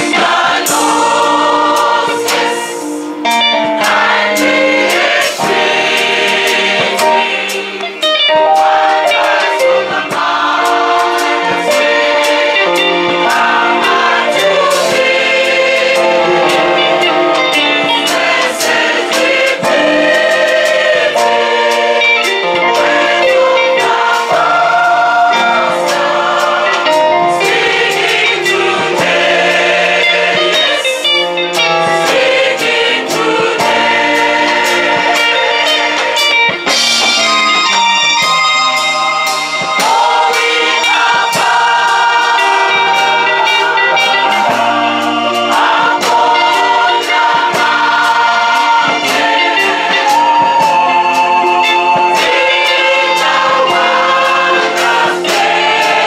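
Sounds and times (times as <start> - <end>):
women's choir singing a hymn: 0.0 - 37.0, 38.8 - 56.0
sharp percussive beats: 0.0 - 56.0.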